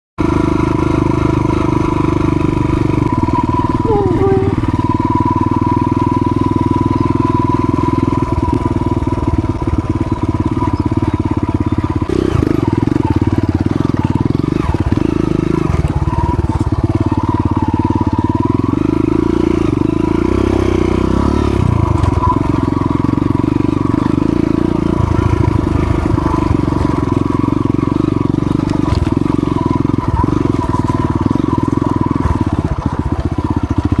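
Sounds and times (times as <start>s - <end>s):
dirt bike engine running: 0.2s - 34.0s.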